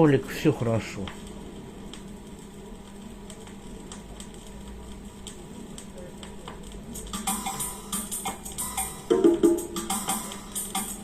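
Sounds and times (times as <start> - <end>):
record stylus crackle and ticks: 0.0 - 11.0
steady low hum: 0.0 - 11.0.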